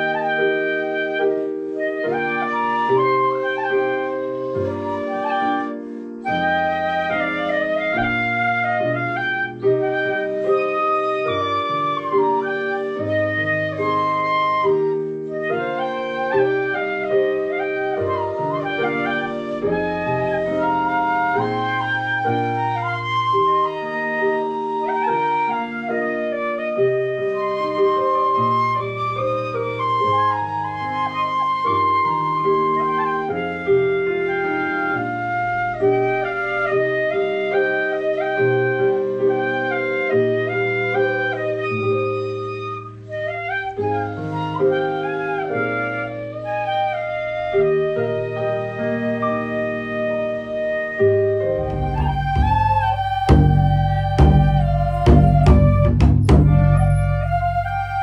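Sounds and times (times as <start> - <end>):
bamboo flutes playing melody: 0.0 - 58.0.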